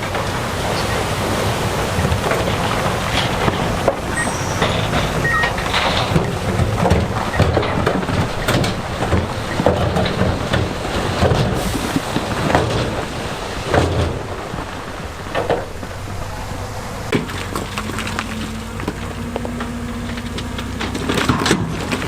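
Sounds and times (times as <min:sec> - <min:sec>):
diesel earthmoving machinery rumbling: 0:00.0 - 0:22.0.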